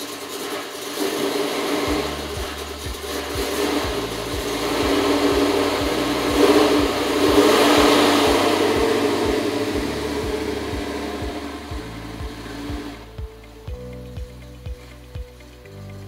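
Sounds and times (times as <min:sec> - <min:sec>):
truck engine loping: 0:00.0 - 0:13.5.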